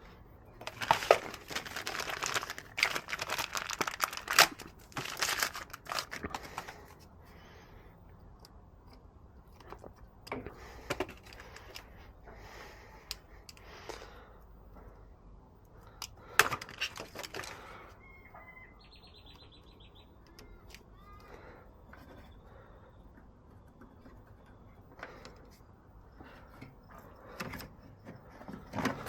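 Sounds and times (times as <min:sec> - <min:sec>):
handling clicks and rustles: 0:00.0 - 0:07.2, 0:08.0 - 0:14.1, 0:15.6 - 0:17.9, 0:20.2 - 0:29.0.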